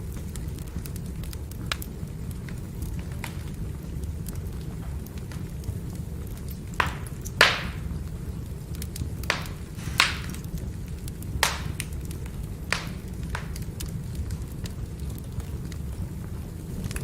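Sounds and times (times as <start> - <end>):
fire rumbling: 0.0 - 17.0
firewood crackling pops: 0.0 - 17.0.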